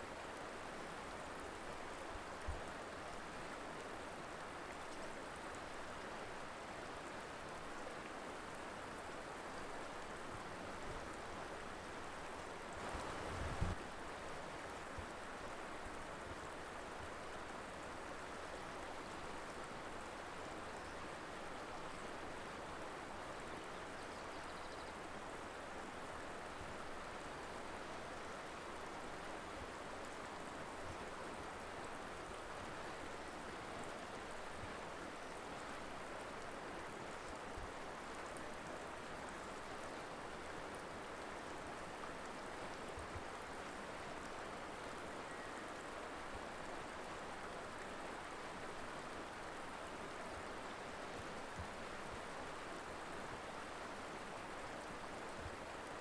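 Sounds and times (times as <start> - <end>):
river flowing: 2.7 - 24.0, 25.0 - 56.0.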